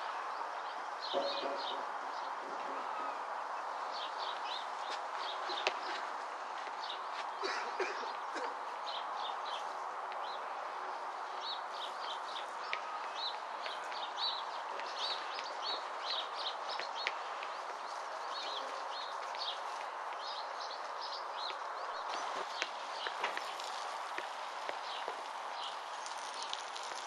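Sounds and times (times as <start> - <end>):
outdoor background hiss: 0.0 - 27.0
small birds chirping: 0.3 - 27.0.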